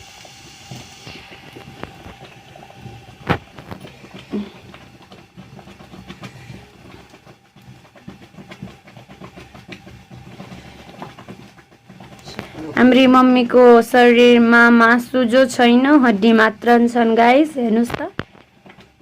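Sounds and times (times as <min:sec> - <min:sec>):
pot being stirred and mashed: 0:00.0 - 0:19.0
wood fire crackling: 0:00.0 - 0:19.0.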